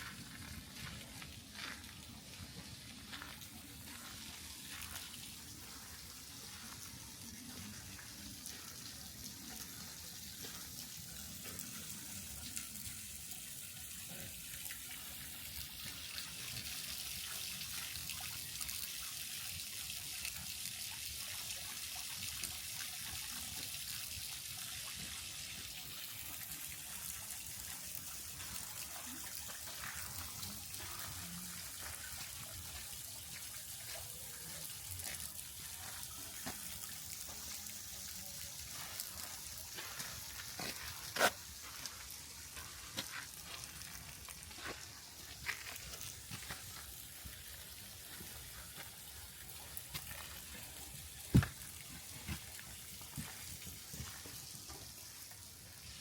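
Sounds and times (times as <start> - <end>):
water running: 0.0 - 20.5, 23.0 - 56.0.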